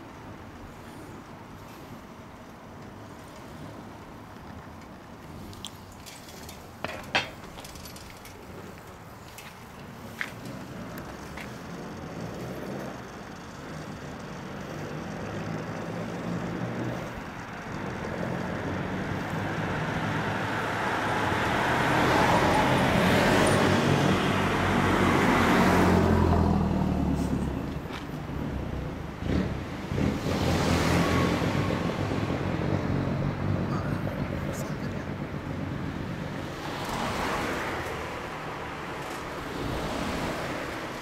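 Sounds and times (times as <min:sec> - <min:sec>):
road vehicles passing: 0:00.0 - 0:41.0.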